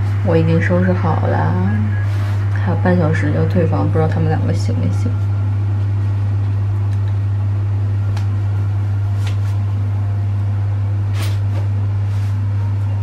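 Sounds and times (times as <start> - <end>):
loud low machine hum: 0.0 - 13.0.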